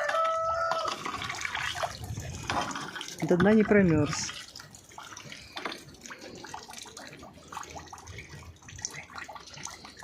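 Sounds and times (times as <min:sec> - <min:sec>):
faint water trickle: 0:00.0 - 0:10.0.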